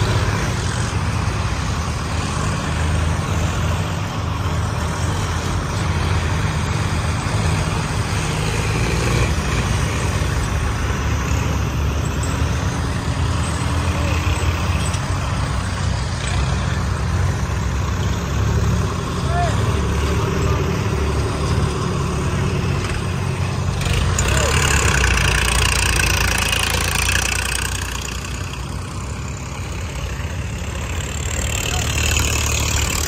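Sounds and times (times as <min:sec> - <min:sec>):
tractor engines running hard: 0:00.0 - 0:33.0.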